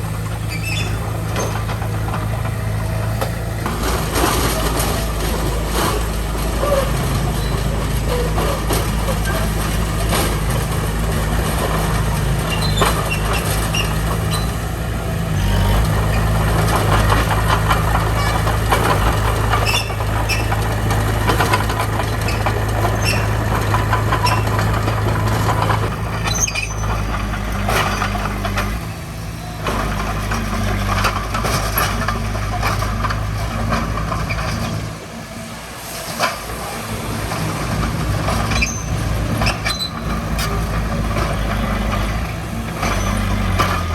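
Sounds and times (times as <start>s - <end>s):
heavy diesel machinery engines: 0.0s - 43.9s
metallic clanks and squeaks: 0.2s - 35.1s, 37.3s - 43.9s.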